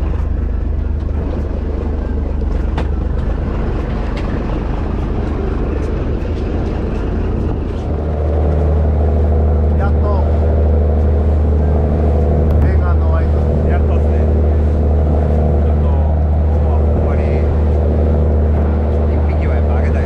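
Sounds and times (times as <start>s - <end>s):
boat engine droning: 0.0s - 20.0s
rush of water and air: 0.0s - 20.0s.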